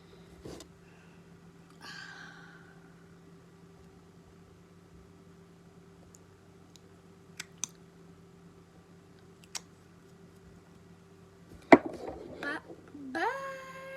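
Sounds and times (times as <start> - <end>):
low background hum: 0.0 - 13.9.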